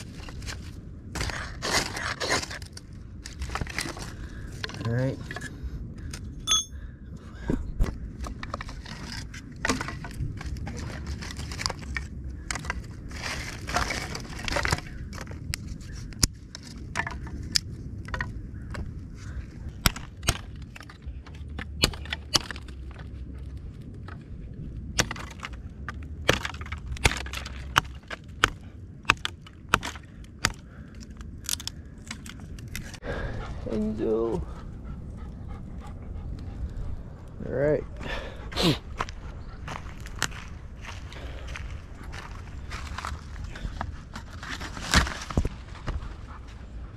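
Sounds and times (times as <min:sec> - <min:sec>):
dry wood cracking in fire: 0:00.0 - 0:06.9, 0:07.7 - 0:33.3, 0:39.0 - 0:46.0.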